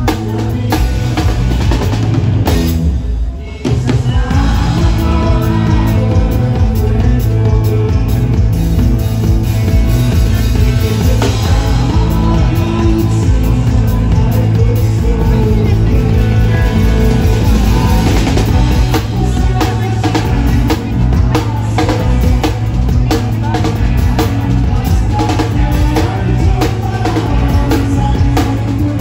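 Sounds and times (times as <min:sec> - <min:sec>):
drum kit: 0:00.0 - 0:29.0
electric guitars: 0:00.0 - 0:29.0.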